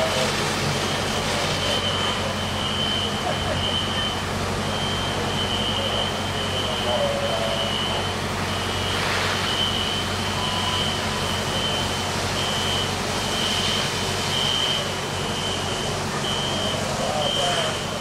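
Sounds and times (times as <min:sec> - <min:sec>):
high-pitched beep tone: 0:01.6 - 0:08.2, 0:08.8 - 0:17.7.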